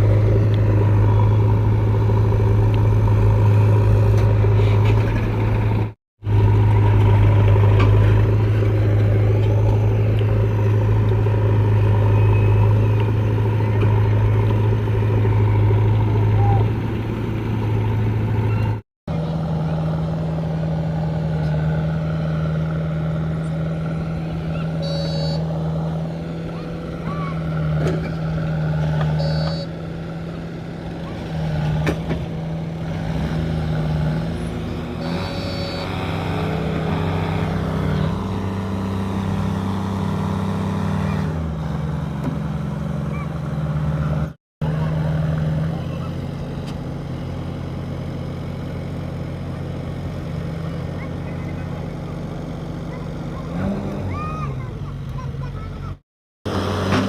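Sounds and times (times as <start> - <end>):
heavy diesel engine humming: 0.0 - 57.0.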